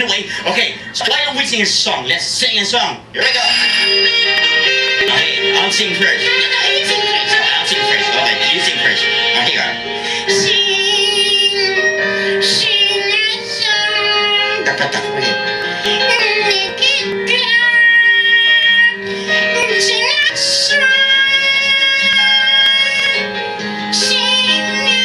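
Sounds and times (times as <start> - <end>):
backing music: 3.2 - 25.0
person singing in puppet voice: 3.2 - 25.0.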